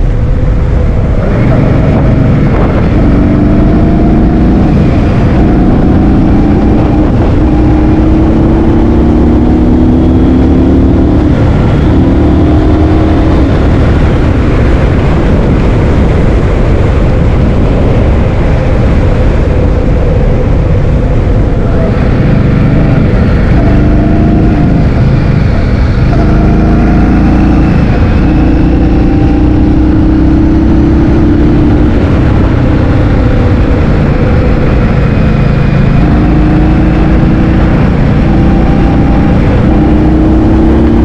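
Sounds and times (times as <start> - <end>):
vehicle engine droning: 0.0 - 41.0
wind buffeting microphone: 0.0 - 41.0.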